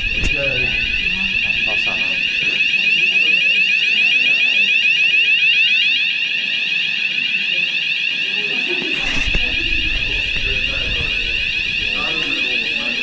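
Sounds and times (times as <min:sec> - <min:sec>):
fire alarm warbling tone: 0:00.0 - 0:13.0.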